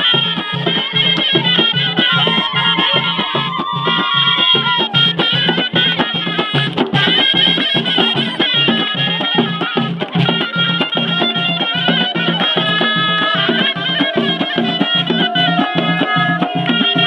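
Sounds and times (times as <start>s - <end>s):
low percussion beat: 0.0s - 17.0s
shawm playing a melody: 0.0s - 17.0s.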